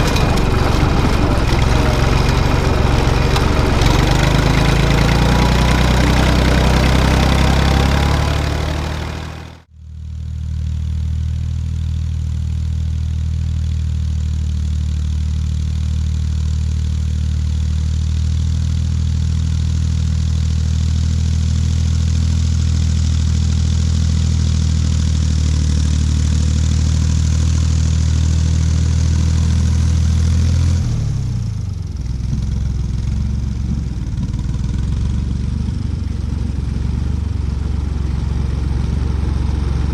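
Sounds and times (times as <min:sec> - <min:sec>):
tractor engine running: 0:00.0 - 0:09.7, 0:11.3 - 0:39.9.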